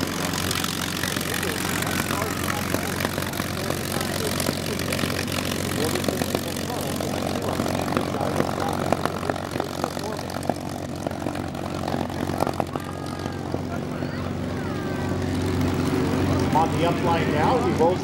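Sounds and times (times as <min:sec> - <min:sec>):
engine popping: 0:00.0 - 0:18.0
propeller plane engine droning: 0:00.0 - 0:18.0.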